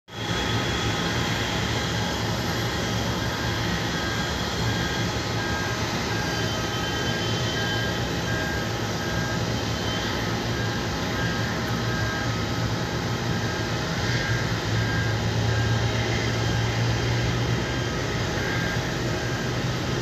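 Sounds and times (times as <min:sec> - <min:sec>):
engine and air-conditioning hum: 0:00.2 - 0:20.0.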